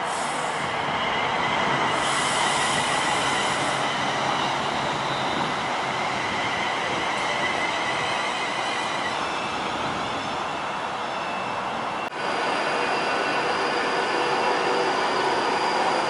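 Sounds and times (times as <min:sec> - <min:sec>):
electric train running and braking: 0:00.0 - 0:16.0
high-pitched brake squeal: 0:00.1 - 0:16.0.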